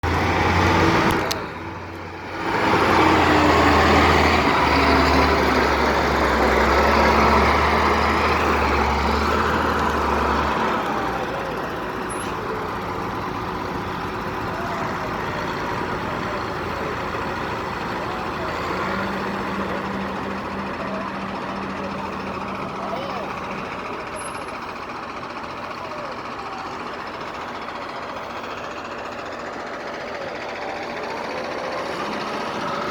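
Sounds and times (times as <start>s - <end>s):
heavy diesel engine driving past: 0.0s - 32.9s.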